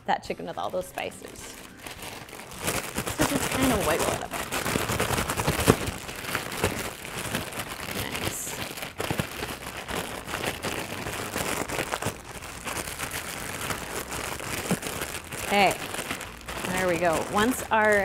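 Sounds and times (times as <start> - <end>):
plastic bag crinkling: 0.2 - 18.0.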